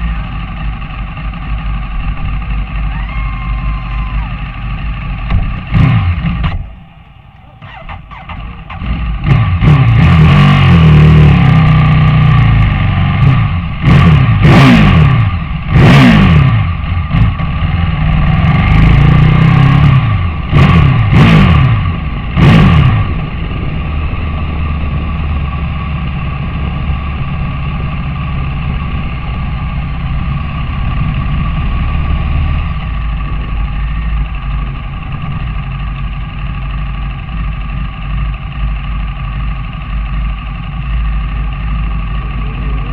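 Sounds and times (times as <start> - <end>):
motorcycle engine at high revs: 0.0 - 6.8, 7.6 - 42.9.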